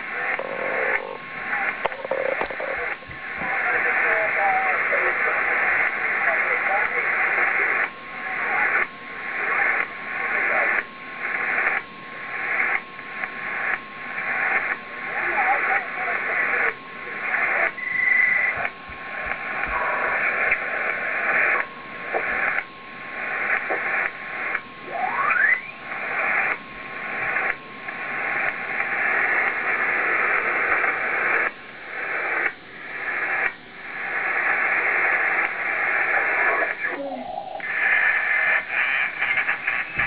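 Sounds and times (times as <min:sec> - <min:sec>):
radio static hiss: 0:00.0 - 0:40.0
radio tuning whistles: 0:00.0 - 0:40.0.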